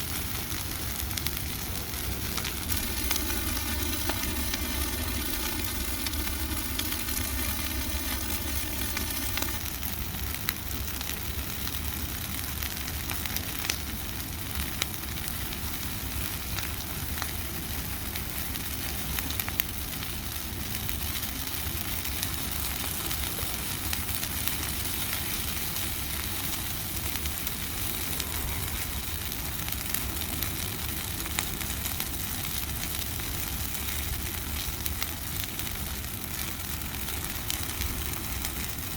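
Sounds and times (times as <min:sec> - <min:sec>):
bonfire hissing and rumbling: 0:00.0 - 0:38.9
fire crackles and pops: 0:00.0 - 0:38.9.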